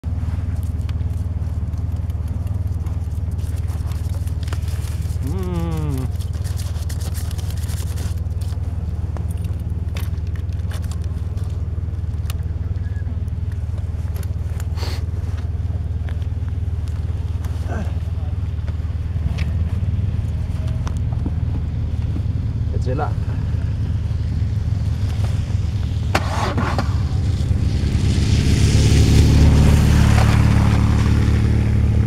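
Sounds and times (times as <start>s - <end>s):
motorcycle engine idling: 0.1s - 26.1s.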